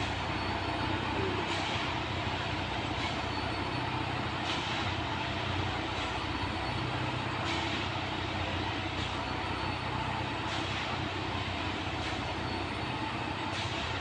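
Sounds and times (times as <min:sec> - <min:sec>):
diesel machine drone: 0:00.0 - 0:14.0.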